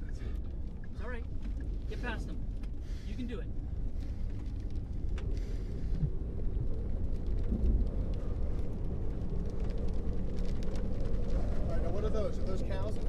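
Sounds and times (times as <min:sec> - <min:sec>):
wind and rain noise: 0:00.0 - 0:13.0.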